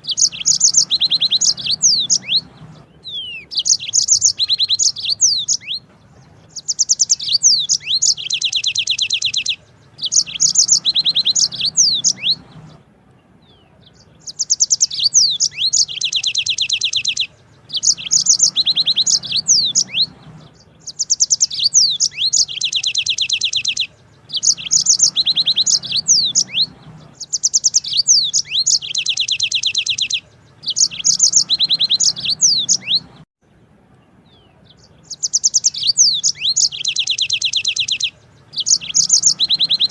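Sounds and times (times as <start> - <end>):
canary singing trills: 0.0 - 33.3, 33.9 - 39.9.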